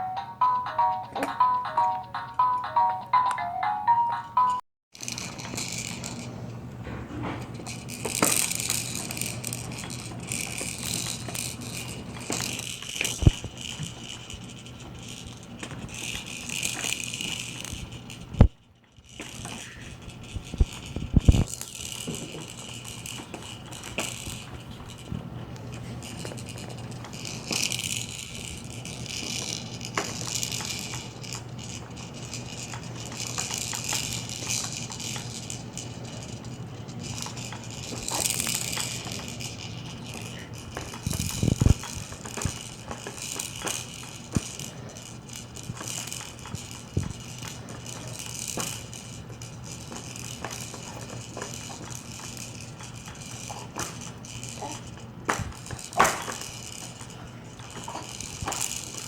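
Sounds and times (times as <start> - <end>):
plastic toys rattling and clicking: 5.0 - 59.0.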